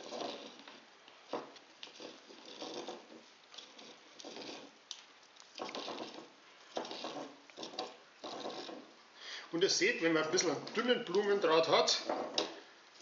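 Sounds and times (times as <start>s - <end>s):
wire rustling around moss ball: 0.0s - 13.0s.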